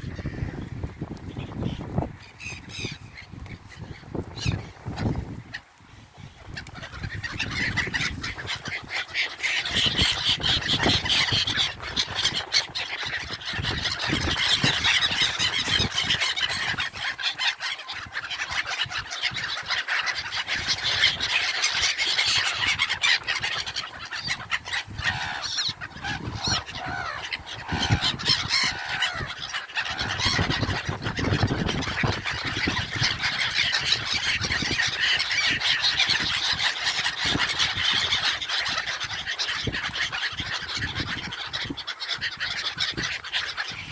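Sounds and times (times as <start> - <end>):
gulls calling: 0.0 - 43.9.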